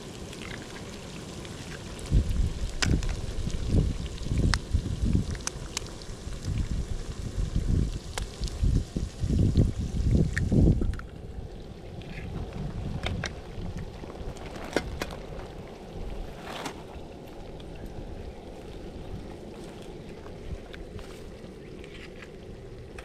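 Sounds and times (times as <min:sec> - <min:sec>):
wind buffeting microphone: 0:02.0 - 0:22.0.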